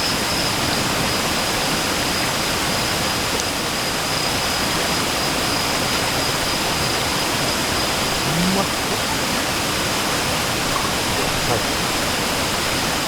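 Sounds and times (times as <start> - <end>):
stream rushing over rocks: 0.6 - 13.0.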